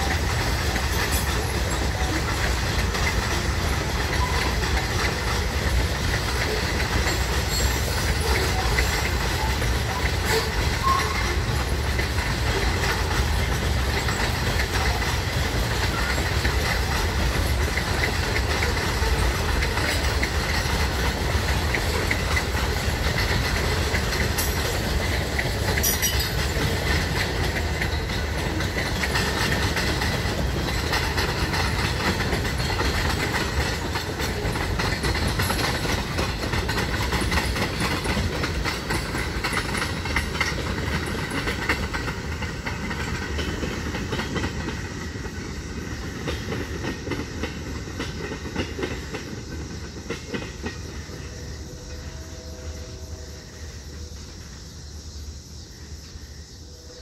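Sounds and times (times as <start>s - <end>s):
wheels clickety-clack over rails: 0.0s - 56.2s.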